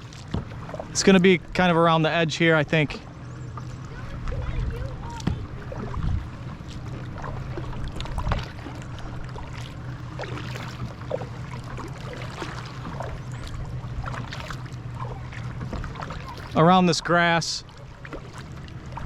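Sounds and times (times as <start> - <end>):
paddle blades splashing: 0.0 - 19.0
steady low hum: 0.0 - 19.0.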